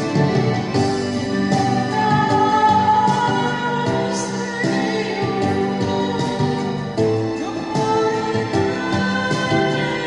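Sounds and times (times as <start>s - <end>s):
ballad music: 0.0s - 10.0s.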